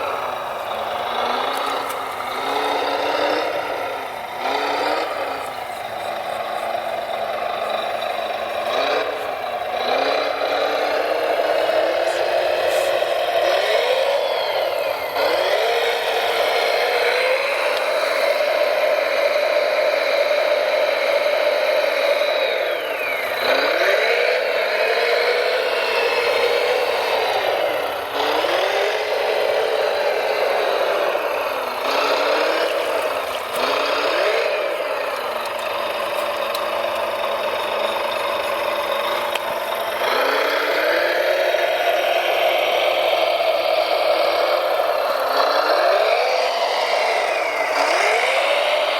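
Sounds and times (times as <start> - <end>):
electric motor whining: 0.0 - 48.9.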